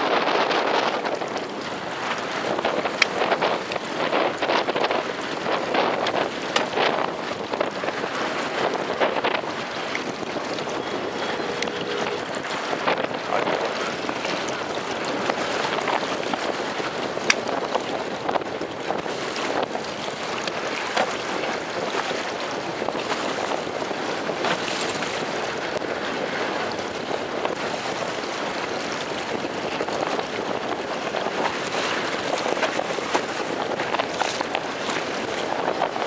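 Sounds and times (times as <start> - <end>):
choppy sea water: 0.0 - 36.0
wind buffeting microphone: 0.0 - 36.0.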